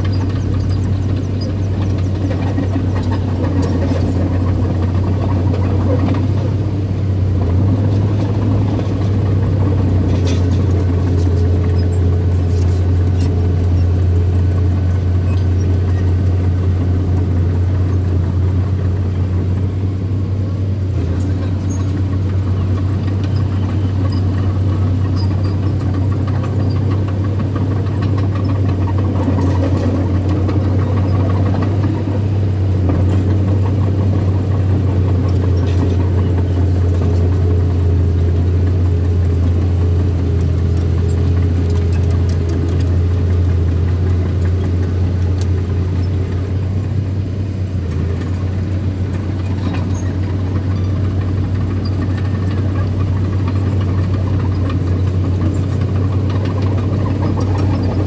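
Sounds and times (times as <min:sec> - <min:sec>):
bulldozer engine running: 0:00.0 - 0:58.0.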